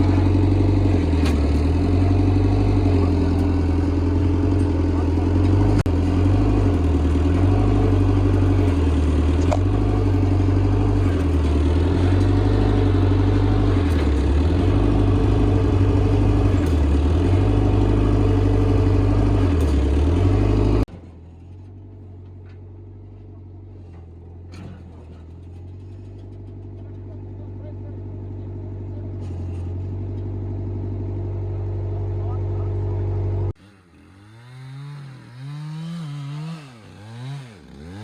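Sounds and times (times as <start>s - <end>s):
vehicle engine running under load: 0.0s - 38.0s.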